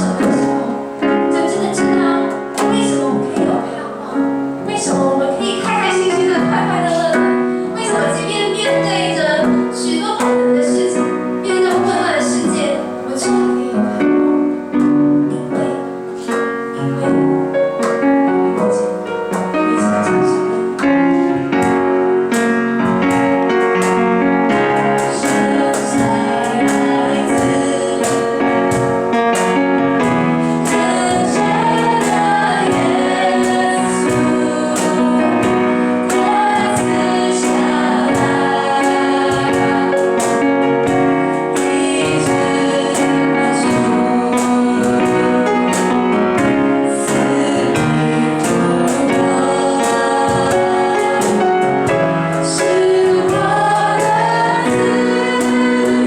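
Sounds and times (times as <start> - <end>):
group singing worship song: 0.0 - 56.0
piano accompaniment: 0.0 - 56.0.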